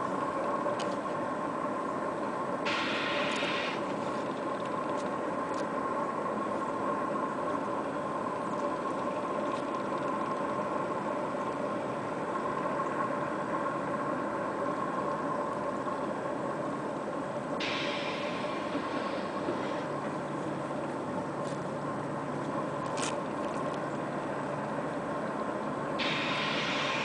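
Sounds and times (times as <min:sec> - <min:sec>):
steady engine hum: 0:00.0 - 0:27.0.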